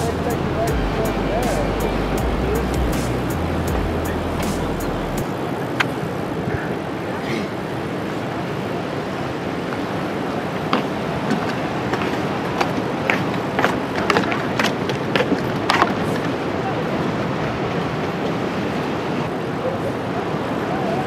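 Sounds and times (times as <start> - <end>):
ocean surf: 0.0 - 21.0
wind: 0.0 - 21.0.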